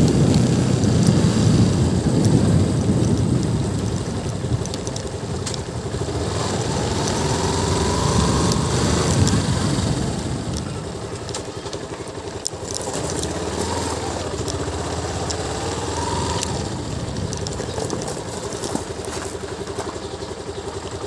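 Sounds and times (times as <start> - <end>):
motorcycle engine at low revs: 0.0 - 21.0
tyres crackling on gravel: 0.0 - 21.0.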